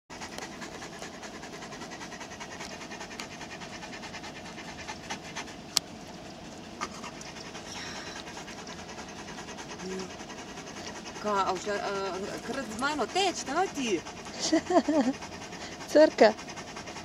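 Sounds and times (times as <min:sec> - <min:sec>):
dog panting: 0:00.1 - 0:17.0.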